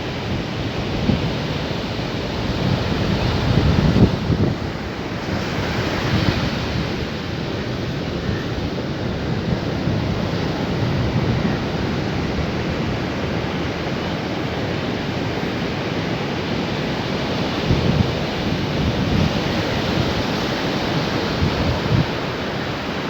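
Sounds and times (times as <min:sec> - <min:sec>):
wind on microphone: 0:00.0 - 0:16.3, 0:16.9 - 0:23.0
waves washing onto beach: 0:00.0 - 0:23.0.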